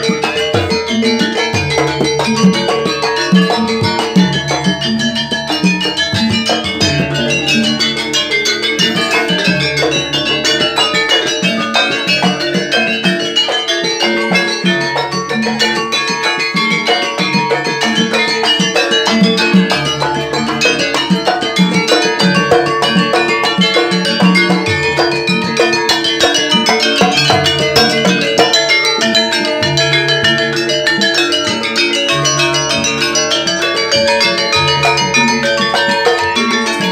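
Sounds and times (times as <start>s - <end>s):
fast hand drumming: 0.0s - 36.9s
ringing metal percussion notes: 0.0s - 36.9s.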